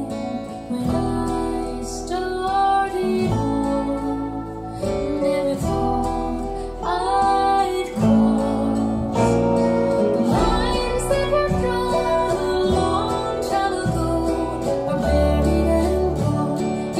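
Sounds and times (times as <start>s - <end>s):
acoustic guitar: 0.0s - 16.9s
woman singing: 0.0s - 16.9s.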